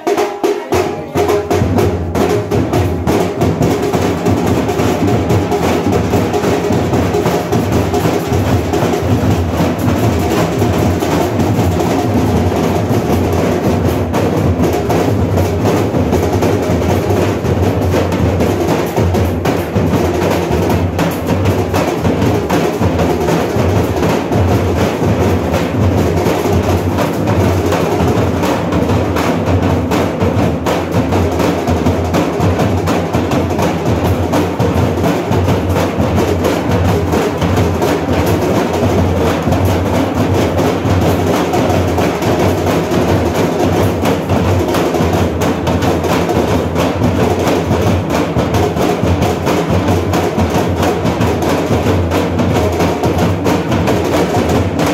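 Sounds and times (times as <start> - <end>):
drums beaten fast: 0.0 - 54.9.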